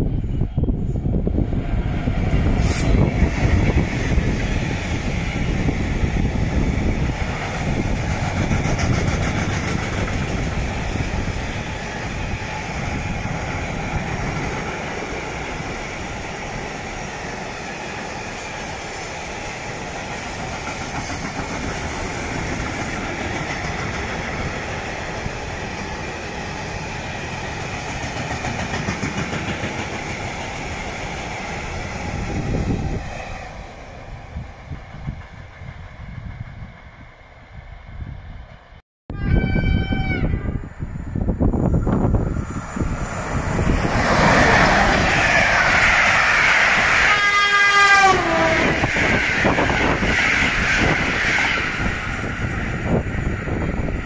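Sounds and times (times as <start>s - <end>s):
freight train wheels rumbling: 0.0s - 38.7s, 40.2s - 54.0s.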